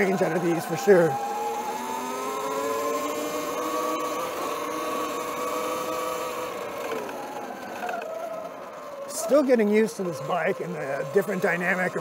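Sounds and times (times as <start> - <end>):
electric motor whining: 0.0 - 12.0
wind: 0.0 - 12.0.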